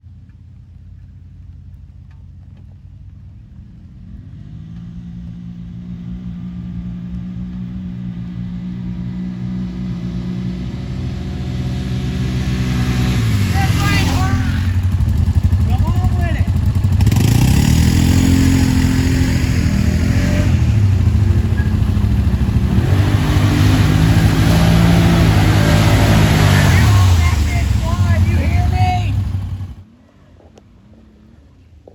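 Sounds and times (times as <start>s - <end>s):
off-road vehicle engine revving: 3.9s - 29.8s.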